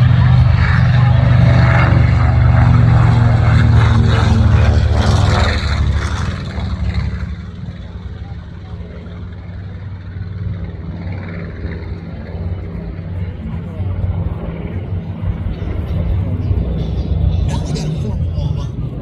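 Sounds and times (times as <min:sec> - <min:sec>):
propeller airplane droning overhead: 0:00.0 - 0:19.0.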